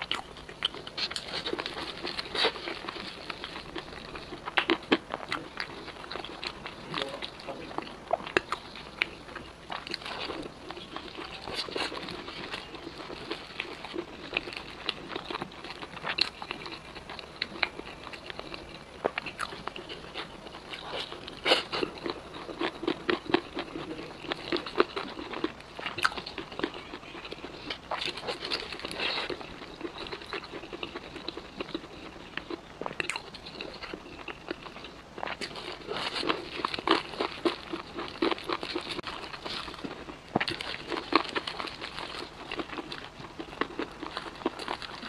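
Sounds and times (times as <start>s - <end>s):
crunching fried chicken: 0.0s - 45.0s
wet chewing: 0.0s - 45.0s.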